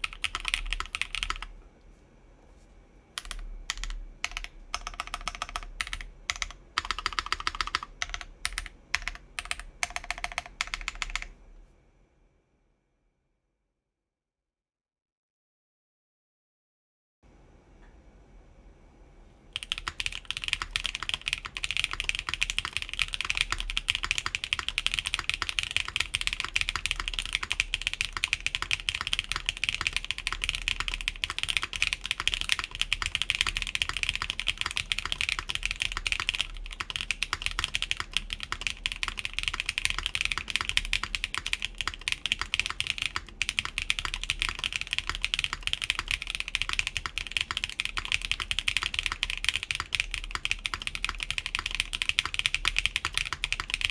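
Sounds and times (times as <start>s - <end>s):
fast typing on mechanical keyboard: 0.0s - 1.6s, 3.2s - 11.4s, 19.6s - 53.9s.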